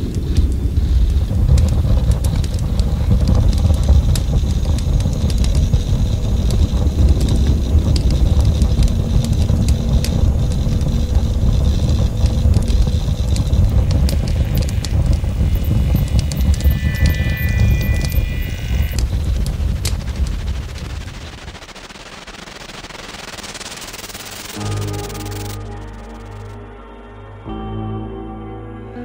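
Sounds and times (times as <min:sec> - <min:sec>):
fire roaring and crackling: 0:00.0 - 0:26.6.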